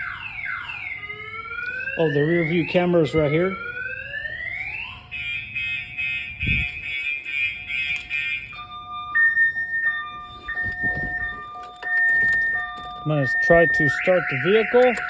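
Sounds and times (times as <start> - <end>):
car alarm siren: 0.0 - 15.0.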